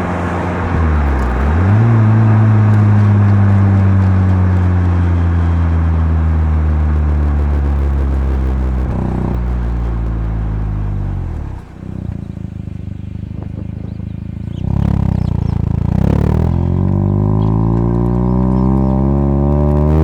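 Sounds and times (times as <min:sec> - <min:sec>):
rotary engine revving while driving: 0:00.0 - 0:20.0.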